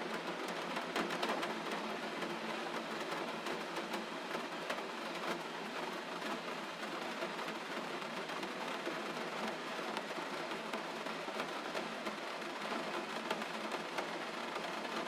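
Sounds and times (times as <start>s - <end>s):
gentle rain: 0.0s - 15.0s.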